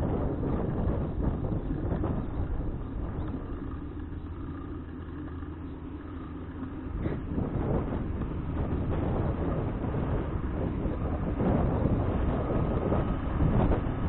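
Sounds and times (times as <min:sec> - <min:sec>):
bicycle road noise: 0:00.0 - 0:14.0
wind rumble on microphone: 0:00.0 - 0:14.0.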